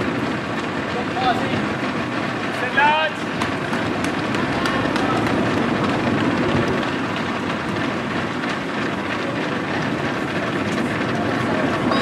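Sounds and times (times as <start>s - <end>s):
footfalls of many runners: 0.0s - 12.0s.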